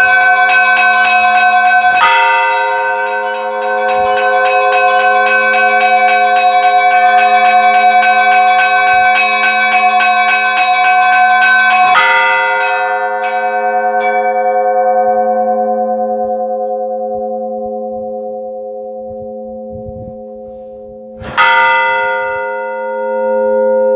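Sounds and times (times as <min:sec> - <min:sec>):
church bells ringing: 0:00.0 - 0:23.9.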